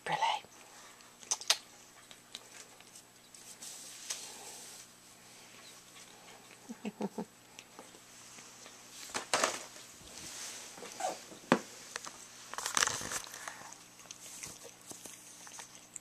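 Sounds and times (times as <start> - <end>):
cats chewing and crunching: 0.5 - 16.0.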